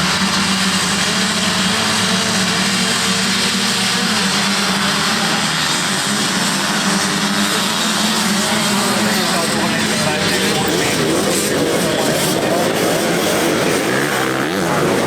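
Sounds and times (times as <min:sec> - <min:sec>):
motocross bike engines droning: 0:00.0 - 0:15.0.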